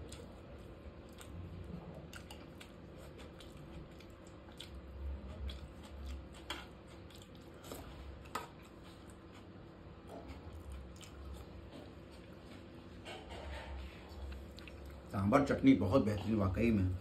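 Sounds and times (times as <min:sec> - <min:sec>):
quiet chewing: 0:00.0 - 0:17.0.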